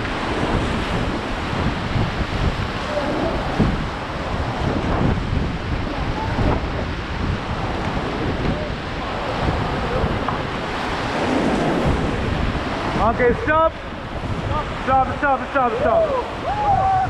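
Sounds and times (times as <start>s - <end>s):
rushing white water: 0.0s - 17.0s
wind buffeting microphone: 0.0s - 17.0s.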